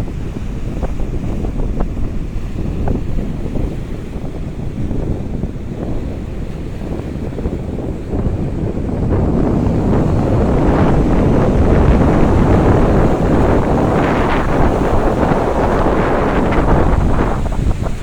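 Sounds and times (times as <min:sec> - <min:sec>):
stormy sea surf: 0:00.0 - 0:18.0
wind buffeting microphone: 0:00.0 - 0:18.0.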